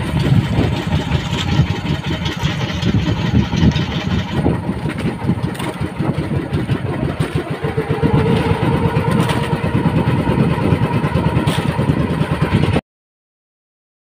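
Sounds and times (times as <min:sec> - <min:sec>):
boat engine pulsing: 0:00.0 - 0:12.8.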